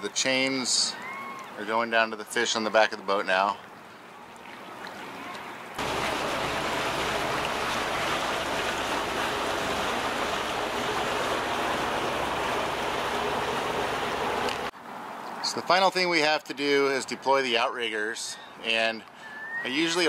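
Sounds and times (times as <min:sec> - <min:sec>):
rushing water: 0:00.0 - 0:17.6
wind: 0:00.0 - 0:20.0.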